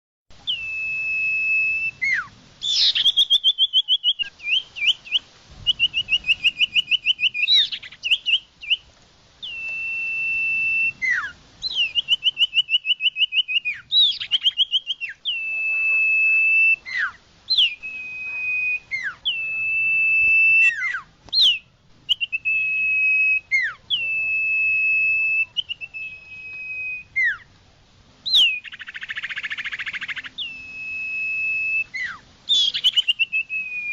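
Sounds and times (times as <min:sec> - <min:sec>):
bird whistled song: 0:00.3 - 0:27.5, 0:28.2 - 0:33.9.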